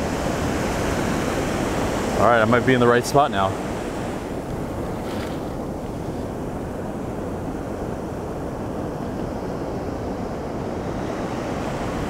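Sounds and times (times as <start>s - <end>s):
shallow surf washing: 0.0s - 12.0s
wind buffeting the microphone: 0.0s - 12.0s.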